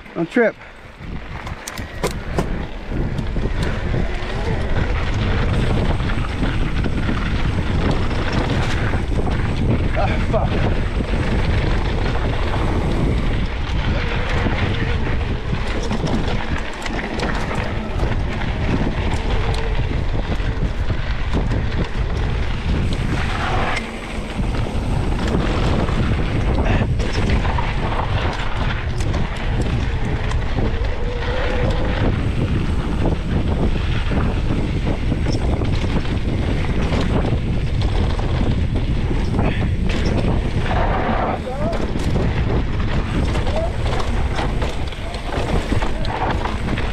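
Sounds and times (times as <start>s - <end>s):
bike knocking and rattling: 0.0s - 46.9s
wind on camera microphone: 0.0s - 46.9s
tyre noise on dirt: 0.7s - 46.9s.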